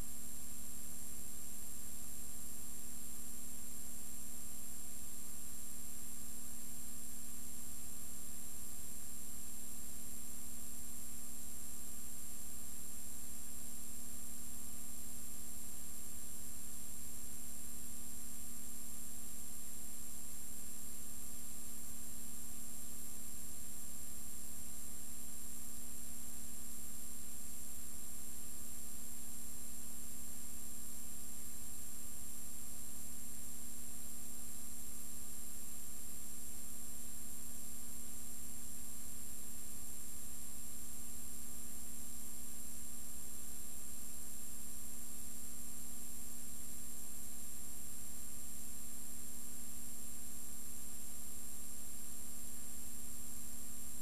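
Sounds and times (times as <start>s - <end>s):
electrical hum and hiss: 0.0s - 54.0s.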